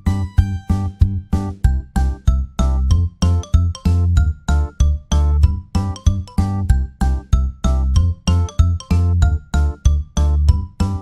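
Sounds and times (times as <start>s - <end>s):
bass line: 0.0s - 11.0s.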